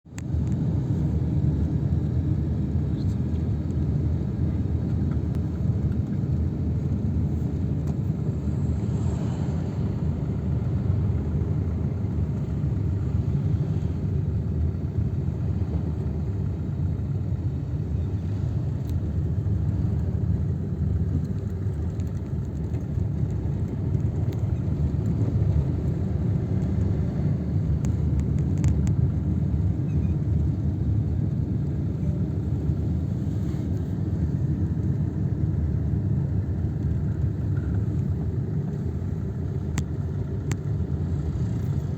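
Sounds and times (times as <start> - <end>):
steady low rumble: 0.1 - 41.9.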